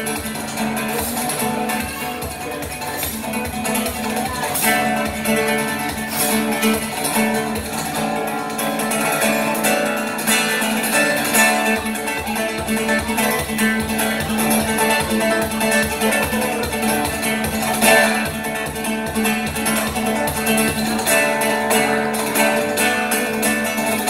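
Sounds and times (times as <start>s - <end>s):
electro-acoustic guitar playing: 0.0s - 24.0s.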